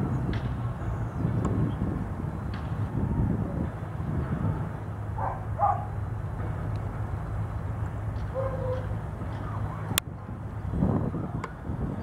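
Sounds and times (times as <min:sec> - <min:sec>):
distant jet engines rumbling: 0:00.0 - 0:12.0.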